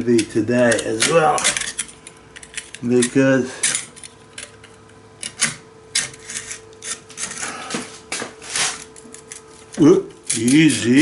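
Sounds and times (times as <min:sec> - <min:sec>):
faint steady hum: 0:00.0 - 0:11.0
metal parts rattling: 0:00.2 - 0:07.3, 0:08.8 - 0:11.0.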